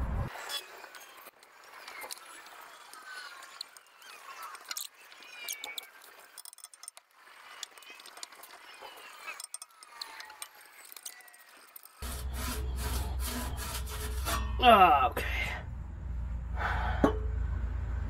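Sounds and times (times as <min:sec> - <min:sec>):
metal-on-metal squeaks: 0:00.4 - 0:15.0.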